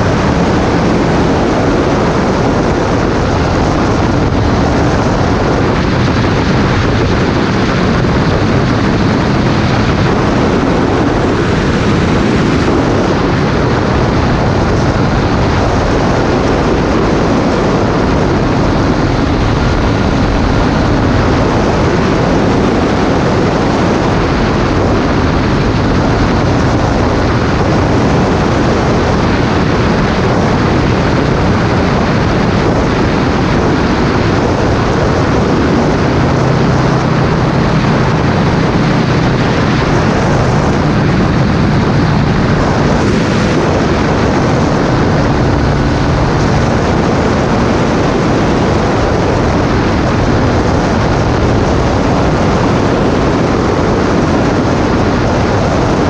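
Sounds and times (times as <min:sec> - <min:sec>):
microlight engine and propeller: 0:00.0 - 0:56.0
wind buffeting microphone: 0:00.0 - 0:56.0.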